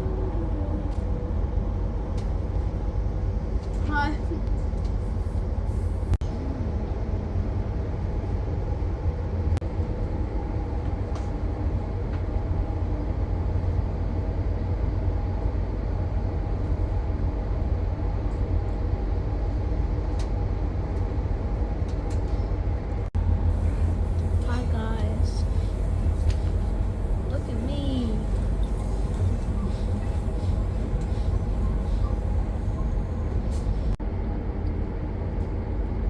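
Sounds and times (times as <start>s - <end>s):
train running: 0.0s - 36.0s.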